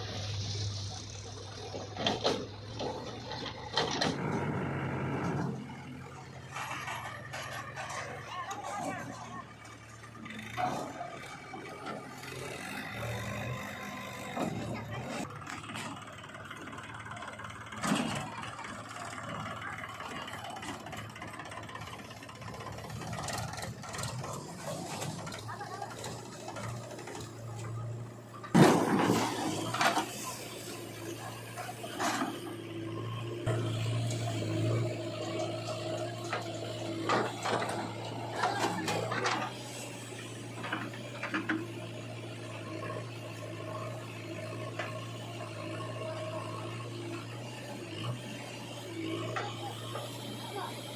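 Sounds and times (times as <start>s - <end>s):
heavy machinery diesel engine: 0.0s - 50.9s.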